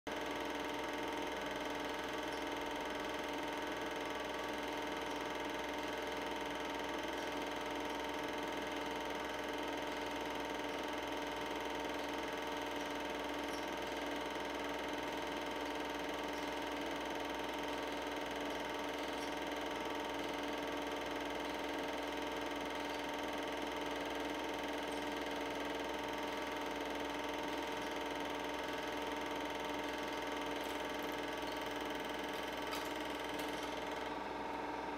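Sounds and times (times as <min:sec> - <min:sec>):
film projector humming and whirring: 0:00.1 - 0:34.9.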